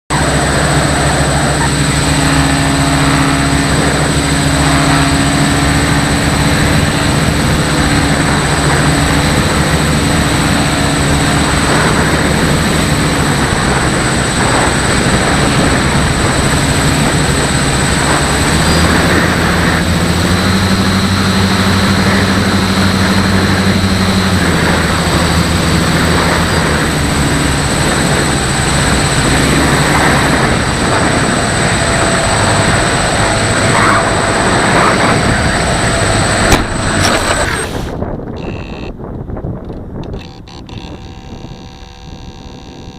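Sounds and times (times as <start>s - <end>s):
thin high whine: 0.1s - 39.0s, 40.1s - 42.9s
model airplane motor and propeller: 0.1s - 42.9s
wind noise on microphone: 0.1s - 42.9s.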